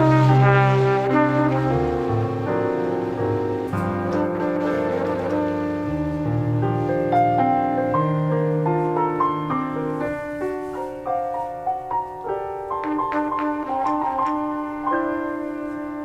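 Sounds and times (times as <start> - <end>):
piano melody with chords: 0.0 - 16.0.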